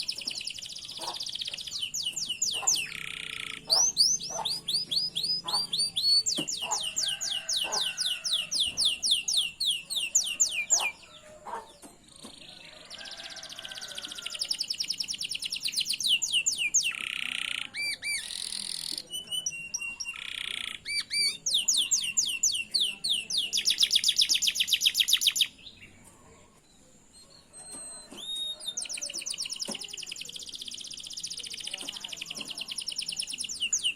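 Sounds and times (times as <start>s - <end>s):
canary trilling song: 0.0s - 26.0s, 27.1s - 33.9s.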